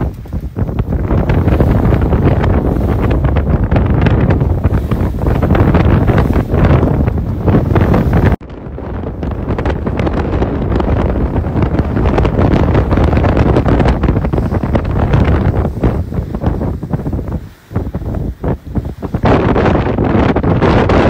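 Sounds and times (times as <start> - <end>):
water splashing along a hull: 0.0 - 21.0
wind buffeting the microphone: 0.0 - 21.0.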